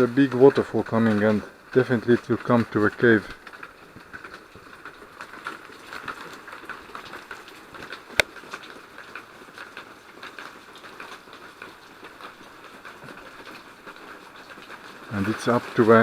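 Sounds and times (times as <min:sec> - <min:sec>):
water pattering and trickling: 0:00.0 - 0:16.0.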